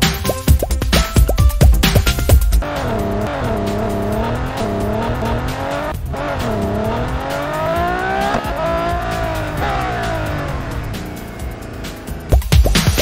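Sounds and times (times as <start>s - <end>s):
race car engine revving: 1.8s - 13.0s.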